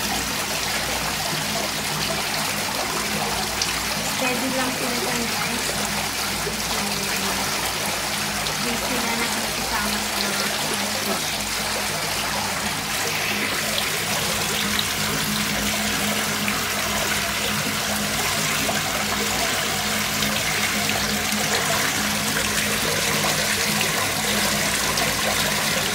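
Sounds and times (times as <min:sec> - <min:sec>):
water bubbling into tank: 0:00.0 - 0:25.9.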